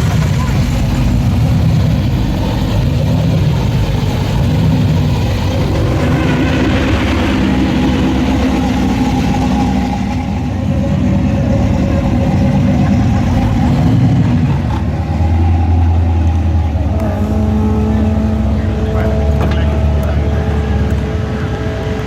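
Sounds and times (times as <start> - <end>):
car engine idling: 0.0 - 22.0
deeper low hum: 0.0 - 22.0.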